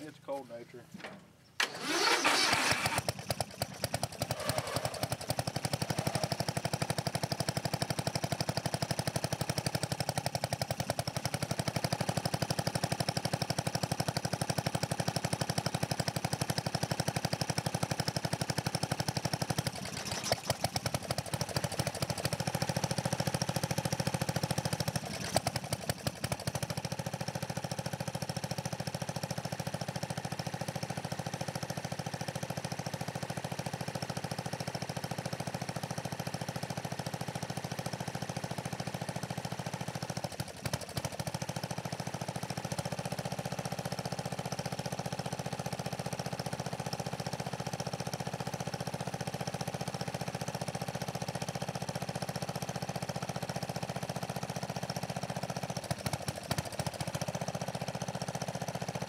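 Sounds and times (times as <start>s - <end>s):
mower engine running: 0.0s - 59.0s.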